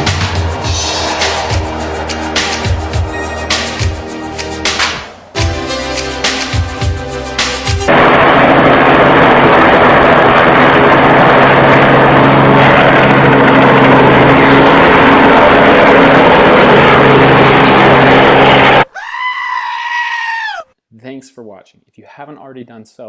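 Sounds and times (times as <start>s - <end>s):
engine roar: 0.0s - 18.9s.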